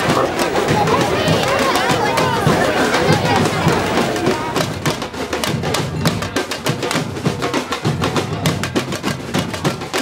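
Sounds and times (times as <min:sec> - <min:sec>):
drum band playing: 0:00.0 - 0:10.0.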